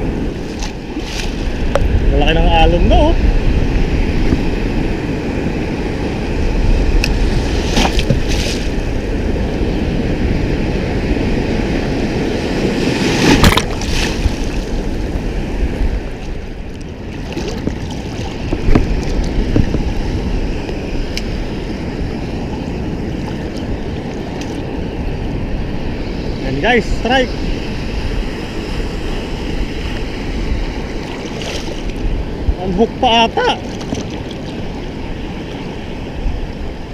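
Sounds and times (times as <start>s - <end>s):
sea waves surging and breaking: 0.0s - 36.9s
wind rumbling on microphone: 0.0s - 36.9s.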